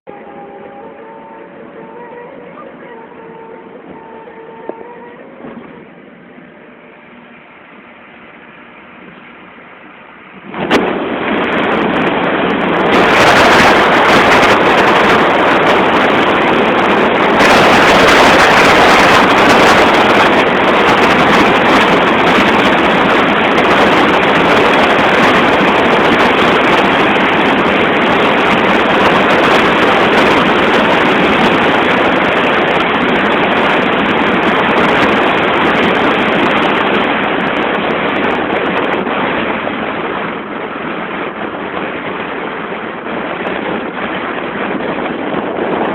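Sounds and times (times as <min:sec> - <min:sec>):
car wind and road noise: 0:00.0 - 0:45.9.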